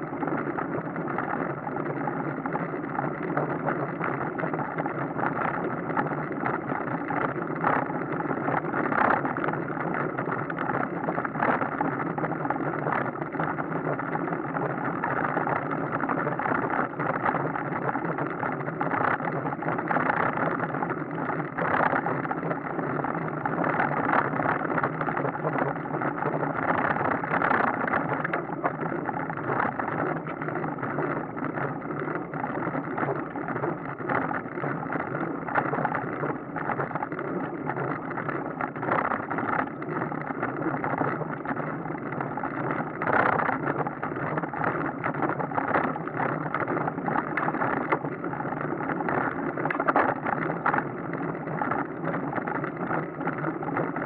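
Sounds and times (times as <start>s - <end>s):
bicycle road noise: 0.0s - 54.0s.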